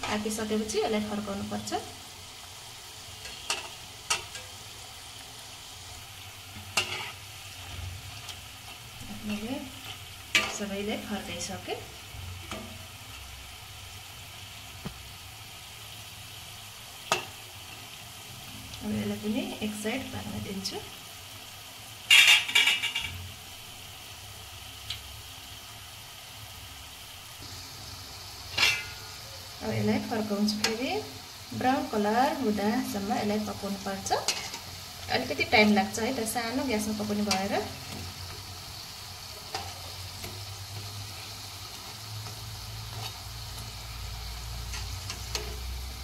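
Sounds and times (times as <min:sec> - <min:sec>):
fritters sizzling in hot oil: 0:00.0 - 0:46.0.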